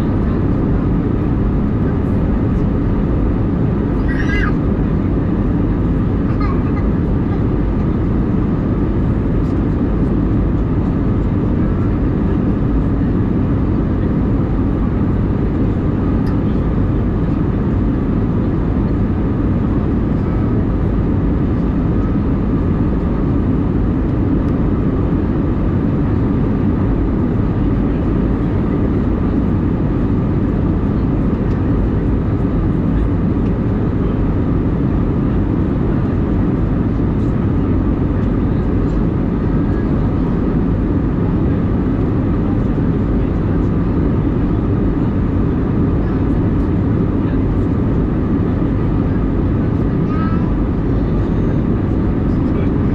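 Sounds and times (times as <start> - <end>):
airplane cabin drone: 0.0 - 52.9.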